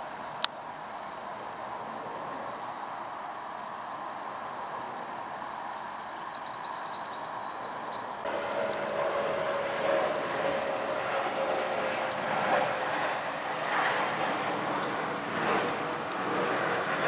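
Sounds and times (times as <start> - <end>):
distant jet noise: 0.0 - 17.0
jet airliner engine whine: 0.0 - 17.0.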